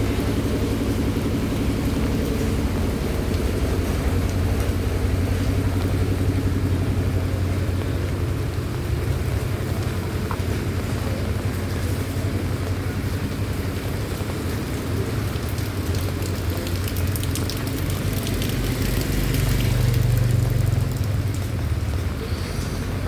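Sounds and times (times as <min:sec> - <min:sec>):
rain falling: 0:00.0 - 0:23.0
raindrops ticking: 0:00.0 - 0:23.0
vehicle engine rumble: 0:00.0 - 0:23.0.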